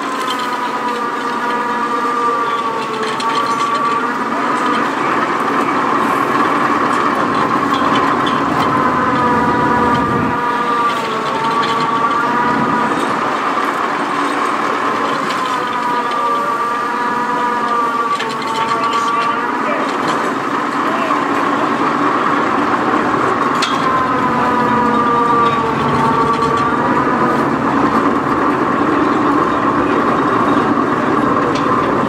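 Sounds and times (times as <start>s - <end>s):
diesel truck winch whining: 0.0s - 32.0s.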